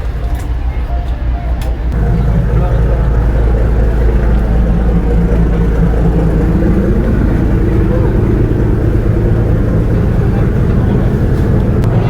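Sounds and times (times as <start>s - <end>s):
vehicle engine rumble: 0.0s - 12.0s
voices: 0.0s - 12.0s.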